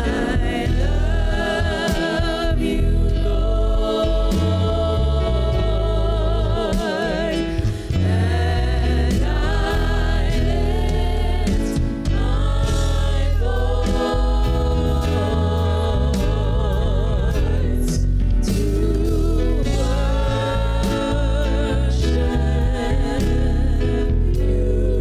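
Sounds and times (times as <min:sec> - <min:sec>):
instrumental accompaniment with bass: 0:00.0 - 0:25.0
women singing gospel: 0:00.0 - 0:25.0.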